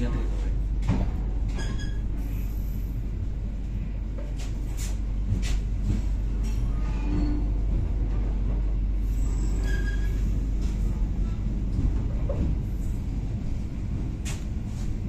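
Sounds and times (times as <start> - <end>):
train running gear rumble: 0.0 - 15.0.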